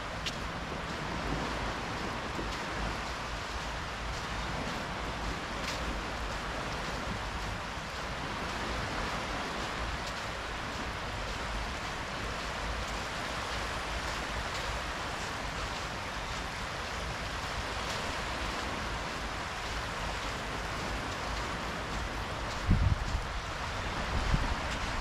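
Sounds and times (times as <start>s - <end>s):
gentle waves on sandy shore: 0.0s - 25.0s.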